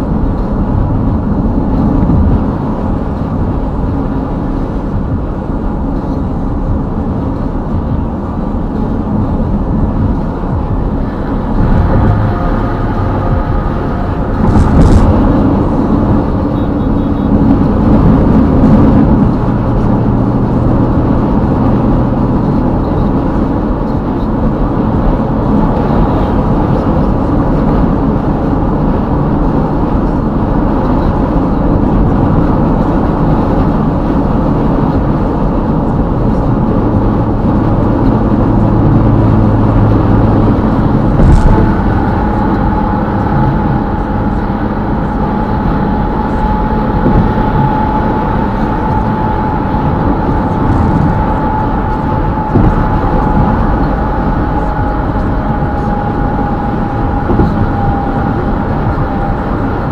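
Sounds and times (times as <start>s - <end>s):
car tyre and engine noise: 0.0s - 59.9s.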